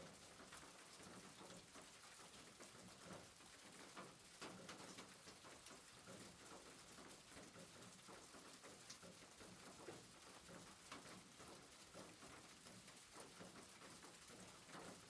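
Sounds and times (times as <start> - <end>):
faint rain pattering on a rooftop: 0.0 - 15.0.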